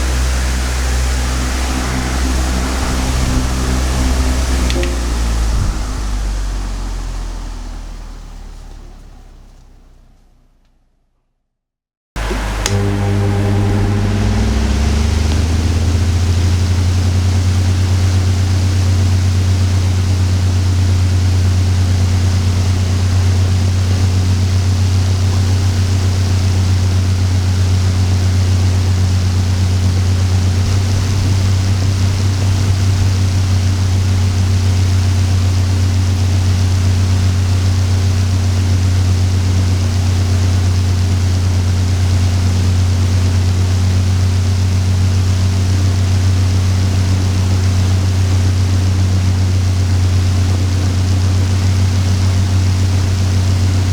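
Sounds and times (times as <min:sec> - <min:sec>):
electric fan running: 0:00.0 - 0:08.8, 0:12.2 - 0:53.9.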